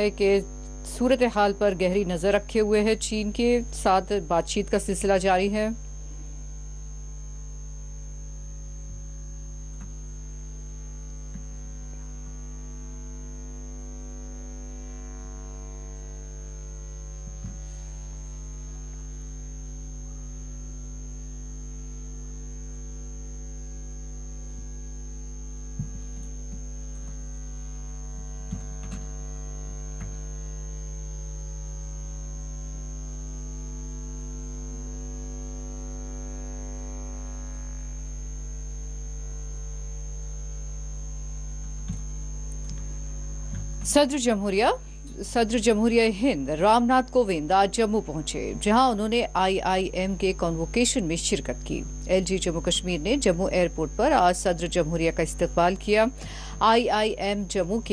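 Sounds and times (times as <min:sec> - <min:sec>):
electrical mains hum: 0:00.0 - 0:57.9
thin high whine: 0:00.0 - 0:57.9.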